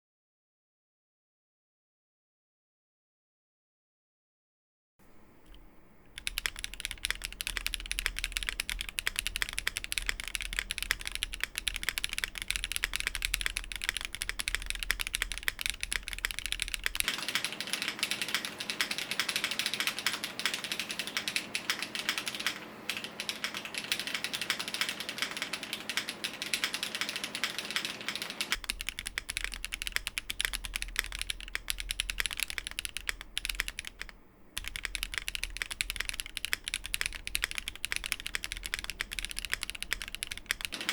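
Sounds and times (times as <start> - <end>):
mechanical keyboard typing: 5.5 - 40.9.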